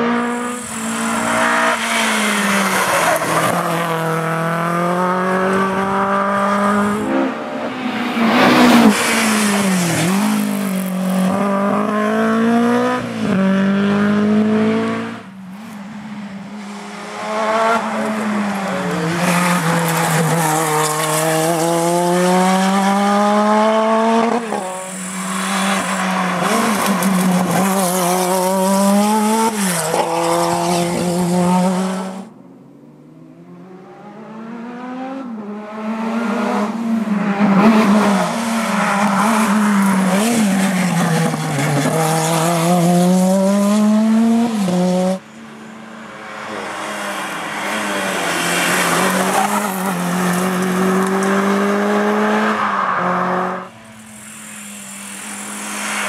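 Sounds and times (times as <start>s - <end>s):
rally car engines revving: 0.0s - 32.4s, 33.0s - 56.0s.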